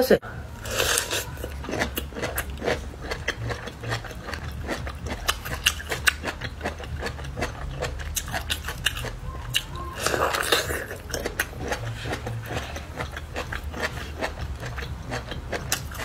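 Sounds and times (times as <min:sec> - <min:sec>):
faint low hum: 0:00.0 - 0:16.0
chewing crunchy bamboo shoot: 0:00.6 - 0:16.0.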